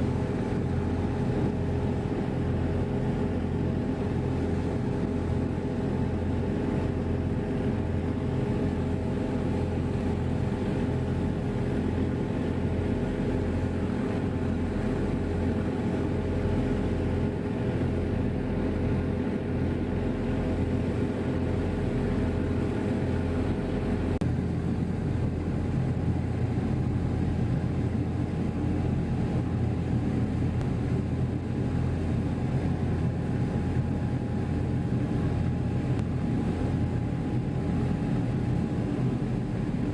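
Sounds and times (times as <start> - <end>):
steady tones over hum: 0.0 - 39.9.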